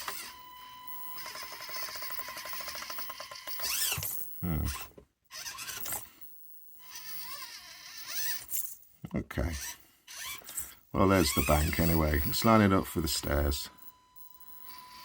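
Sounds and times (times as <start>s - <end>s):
small electric motor whining: 0.0s - 8.6s, 9.4s - 15.0s.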